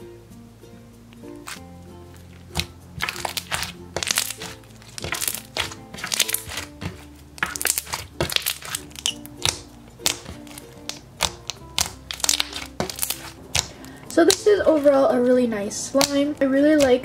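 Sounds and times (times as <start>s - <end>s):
background music: 0.0s - 17.0s
slime crackling and popping: 1.4s - 1.6s, 2.2s - 15.0s, 15.9s - 17.0s.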